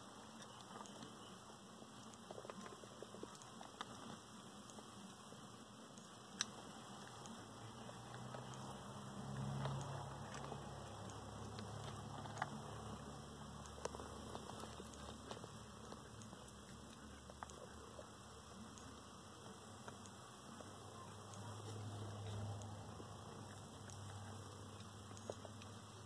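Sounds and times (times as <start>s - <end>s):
low hum: 0.0s - 26.0s
crabs clicking on shell dish: 0.2s - 26.0s.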